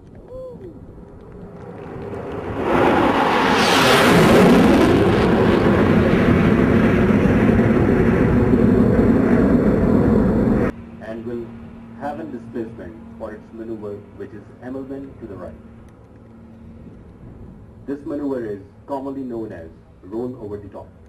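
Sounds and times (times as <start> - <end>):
aircraft engine roar: 0.0 - 21.0.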